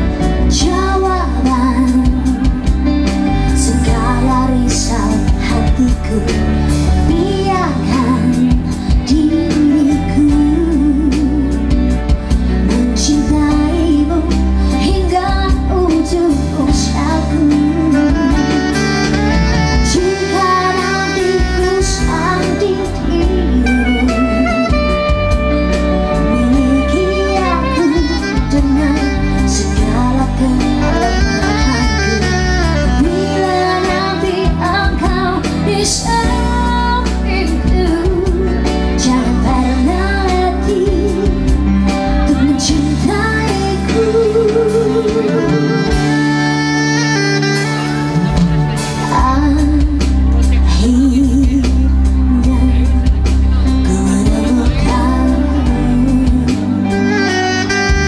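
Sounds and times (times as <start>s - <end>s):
woman singing with vibrato: 0.0s - 46.9s, 48.2s - 57.8s
bass line: 0.0s - 58.0s
keyboard: 0.0s - 58.0s
saxophone: 0.0s - 58.0s.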